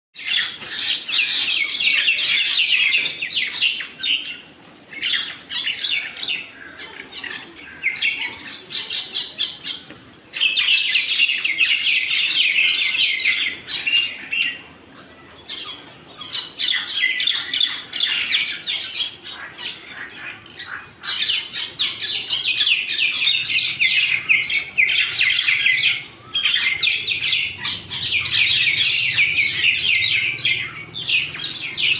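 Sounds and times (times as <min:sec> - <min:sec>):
birds chattering harshly: 0:00.2 - 0:31.9.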